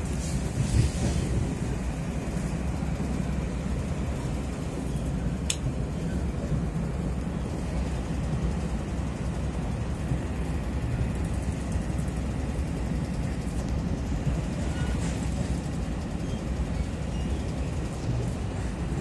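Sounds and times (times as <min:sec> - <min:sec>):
train rumbling from inside carriage: 0:00.0 - 0:19.0.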